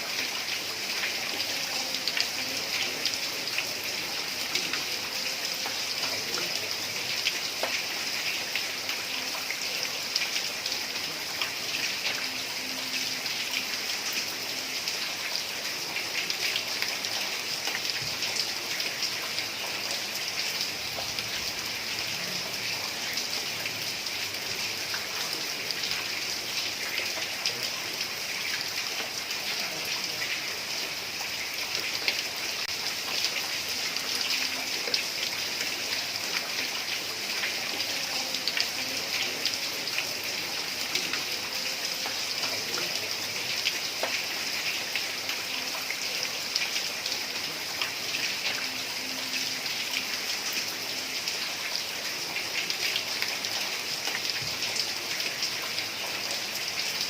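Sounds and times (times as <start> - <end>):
heavy rain on a tiled roof: 0.0 - 57.0.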